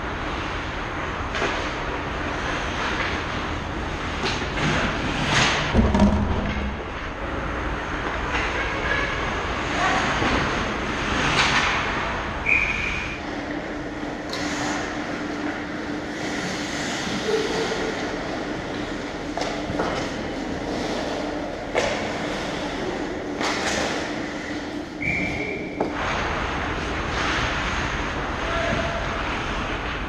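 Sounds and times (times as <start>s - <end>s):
indoor rink din: 0.0s - 30.0s.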